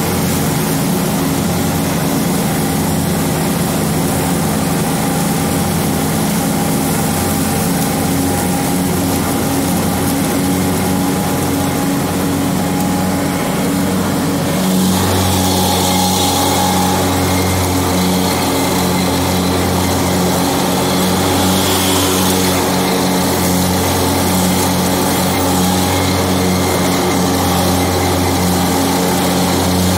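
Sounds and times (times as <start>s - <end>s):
riding mower engine droning: 0.0s - 29.9s.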